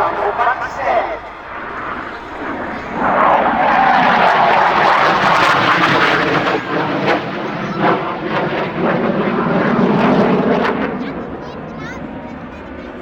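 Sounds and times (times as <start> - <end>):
jet engine noise flying past: 0.0 - 13.0.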